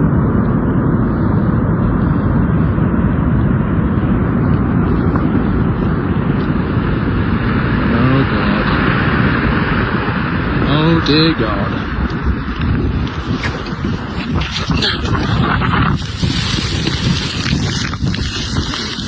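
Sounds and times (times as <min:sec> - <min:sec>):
wind and snow buffeting microphone: 0:00.0 - 0:19.0.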